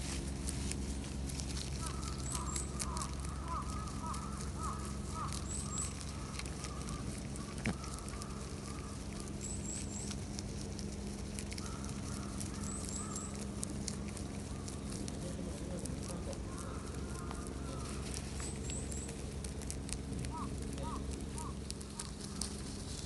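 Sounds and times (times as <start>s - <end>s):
rabbits chewing leaves: 0.0s - 23.0s
steady low hum: 0.0s - 23.0s.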